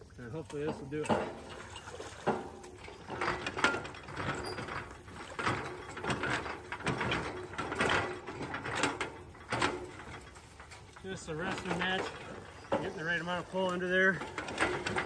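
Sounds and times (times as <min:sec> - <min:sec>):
metal creaking and grinding: 0:00.2 - 0:15.0.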